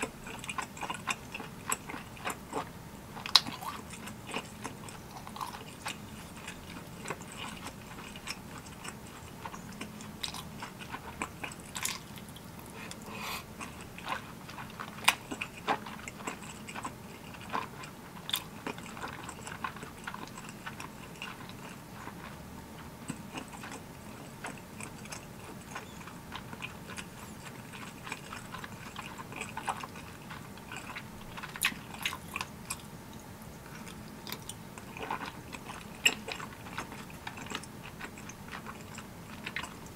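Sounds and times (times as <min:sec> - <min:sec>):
close chewing with wet smacks: 0:00.0 - 0:39.9.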